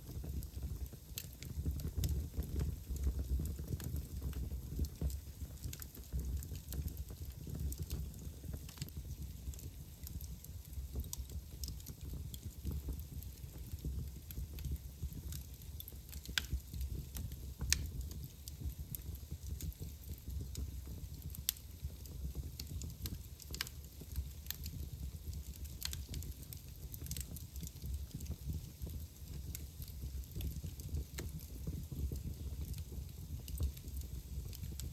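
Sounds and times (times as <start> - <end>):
fire crackles and pops: 0.0 - 34.9
fire rumbling: 0.0 - 34.9.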